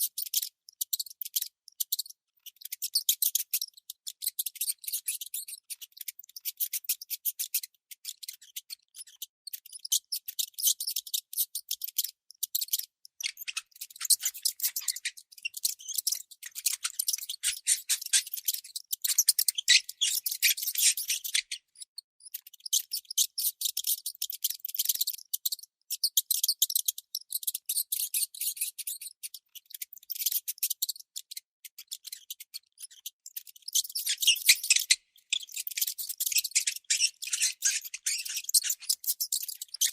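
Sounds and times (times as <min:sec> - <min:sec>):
mouse squeaking: 0:00.0 - 0:39.9.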